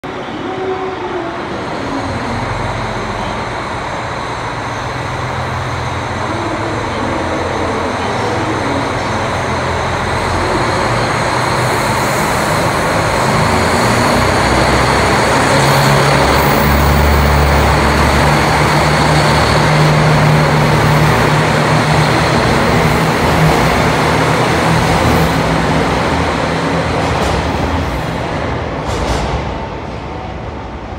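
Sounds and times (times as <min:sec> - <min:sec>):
diesel train engines running: 0:00.0 - 0:30.9.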